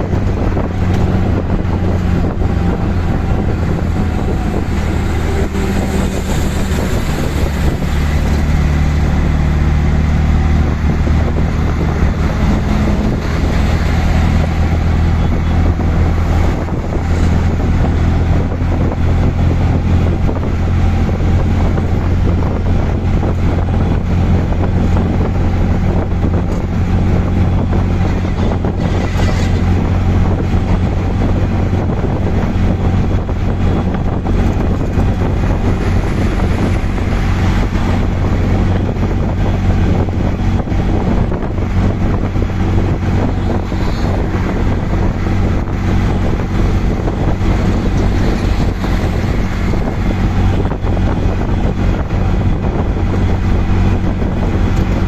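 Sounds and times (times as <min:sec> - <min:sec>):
rickshaw engine running: 0:00.0 - 0:55.0
road noise: 0:00.0 - 0:55.0
wind buffeting microphone: 0:00.0 - 0:55.0.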